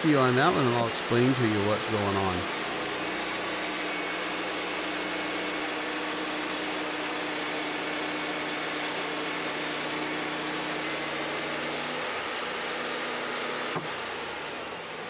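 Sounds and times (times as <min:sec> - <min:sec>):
sawmill engine and band saw humming: 0:00.0 - 0:15.0.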